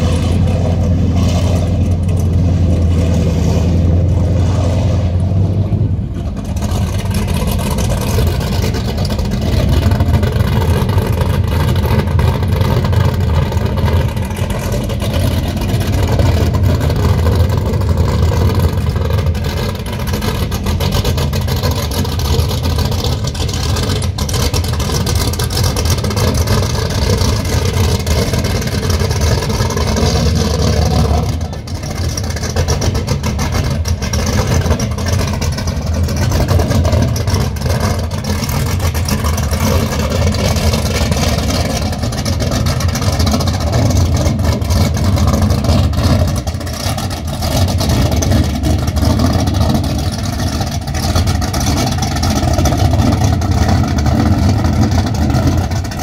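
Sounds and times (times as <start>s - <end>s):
deep boat engine running: 0.0s - 56.0s
water churning: 0.0s - 56.0s.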